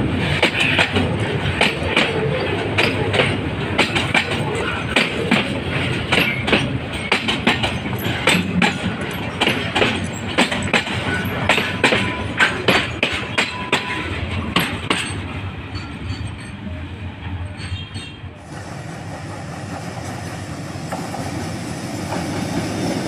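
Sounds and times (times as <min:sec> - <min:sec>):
wheels clacking over rail joints: 0:00.0 - 0:21.4
rumble of wheels on rails: 0:00.0 - 0:23.0.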